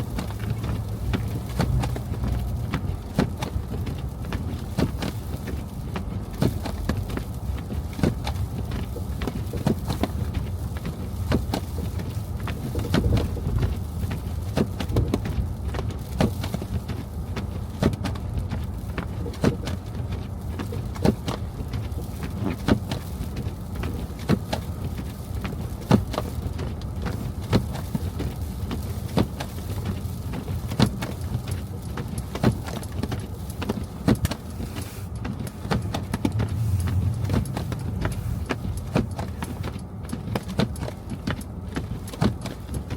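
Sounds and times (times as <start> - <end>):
car engine and tyres rumbling: 0.0 - 42.9.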